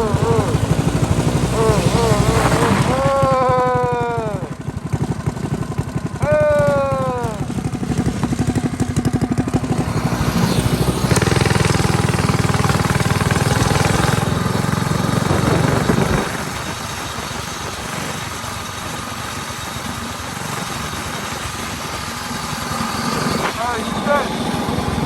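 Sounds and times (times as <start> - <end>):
small engine revving high: 0.0 - 25.0.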